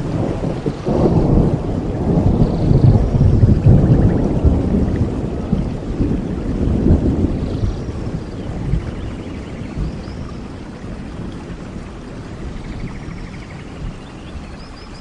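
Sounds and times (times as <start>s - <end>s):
rolling thunder: 0.0s - 14.5s
rain falling: 0.0s - 15.0s.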